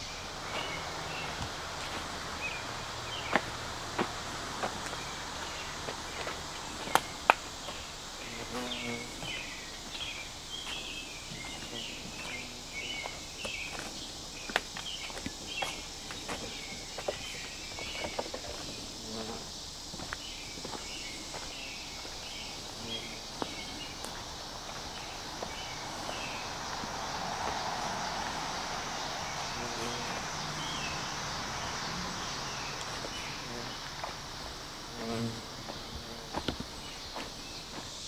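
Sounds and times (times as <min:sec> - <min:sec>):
footsteps on trail: 0:00.0 - 0:38.0
insect hiss: 0:00.0 - 0:38.0.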